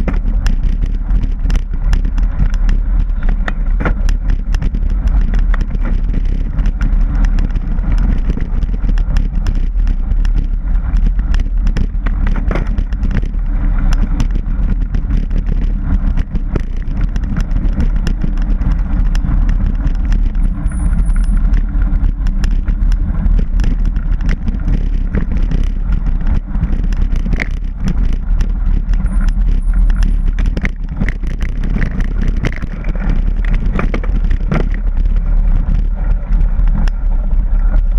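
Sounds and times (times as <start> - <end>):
bike clicks and rattles: 0.0 - 37.9
wind and tyre rumble: 0.0 - 37.9.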